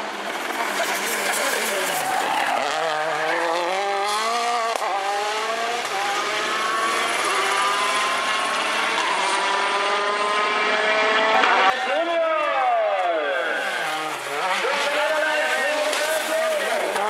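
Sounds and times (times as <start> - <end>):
rally car engine pulling hard: 0.1 - 12.0, 13.4 - 17.0.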